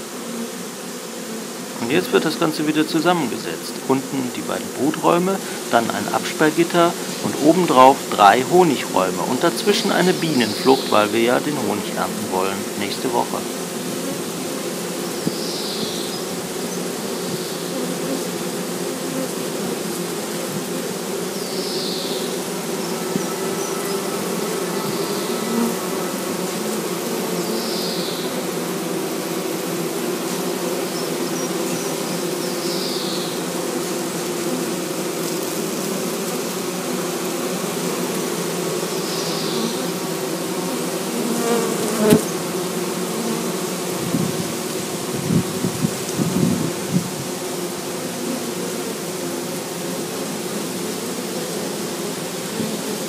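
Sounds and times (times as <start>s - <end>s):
bees buzzing: 0.0s - 53.0s.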